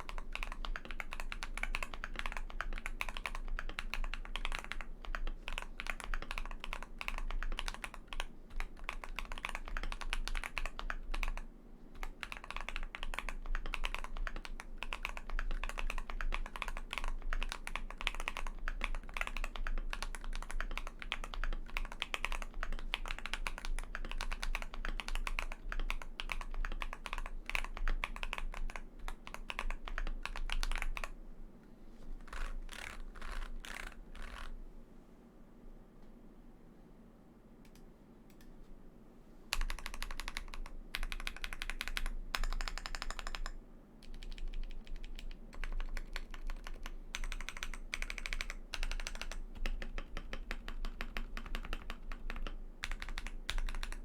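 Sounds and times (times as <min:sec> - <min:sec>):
mechanical keyboard typing: 0:00.0 - 0:31.2, 0:32.2 - 0:34.6, 0:39.5 - 0:54.0.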